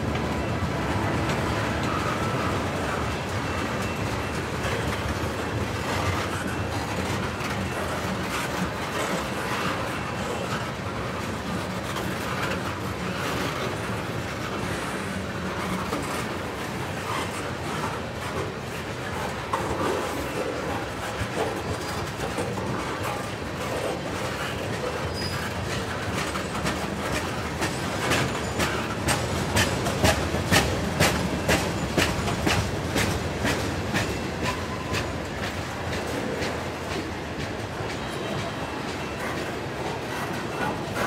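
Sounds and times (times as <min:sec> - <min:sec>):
train wheels rolling on rails: 0:00.0 - 0:41.0
wheels clicking over rail joints: 0:00.0 - 0:41.0.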